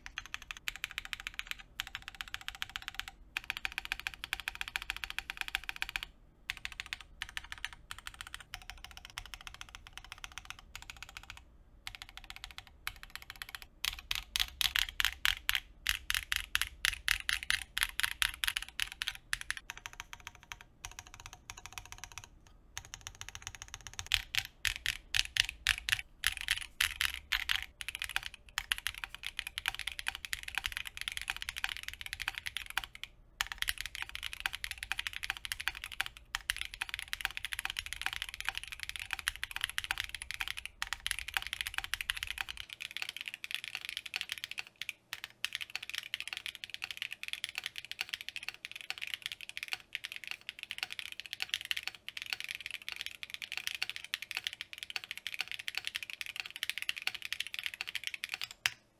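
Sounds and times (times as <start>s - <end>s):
fast typing on mechanical keyboard: 0.0s - 58.8s.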